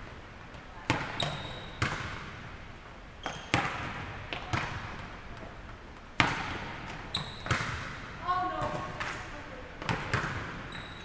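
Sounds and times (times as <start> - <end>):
volleyballs slapping gym floor: 0.4 - 10.9.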